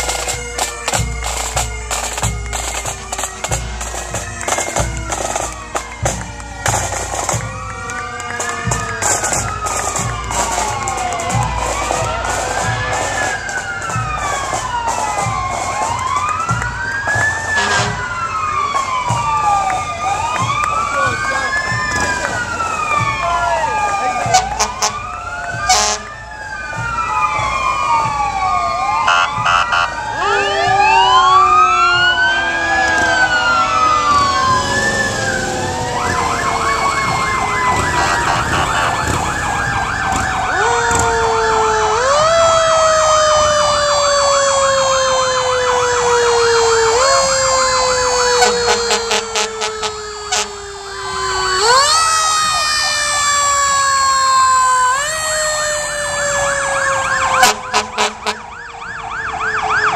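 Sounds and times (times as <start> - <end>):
fire engine sirens wailing: 0.0 - 59.9.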